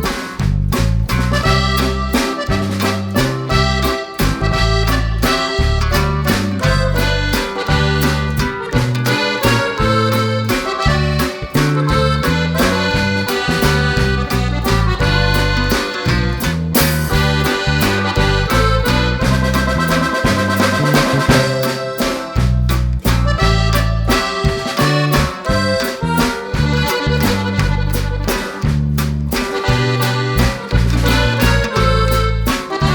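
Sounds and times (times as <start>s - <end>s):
accordion music with beat: 0.0s - 32.9s.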